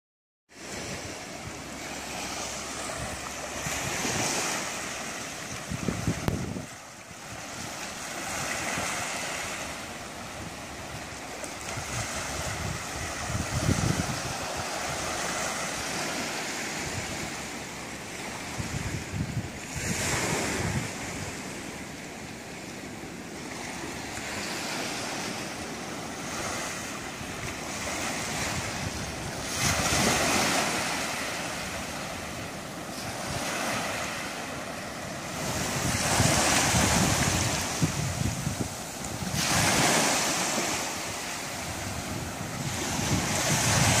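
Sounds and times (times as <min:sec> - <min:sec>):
small waves breaking on beach: 0:00.5 - 0:44.0
wind rumble on microphone: 0:00.6 - 0:22.0, 0:23.3 - 0:44.0.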